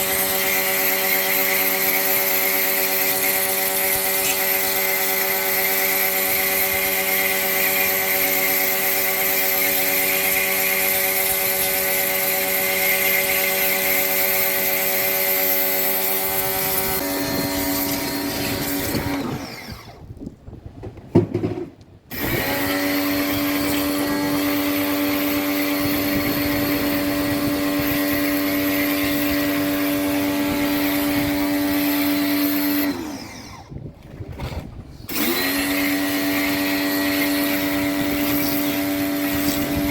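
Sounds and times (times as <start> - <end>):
electric power tool whining: 0.0 - 20.2, 22.1 - 33.9, 35.1 - 39.9.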